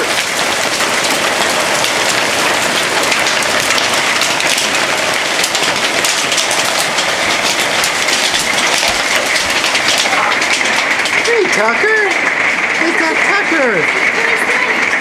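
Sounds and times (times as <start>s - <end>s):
hail rattling on metal: 0.0s - 15.0s.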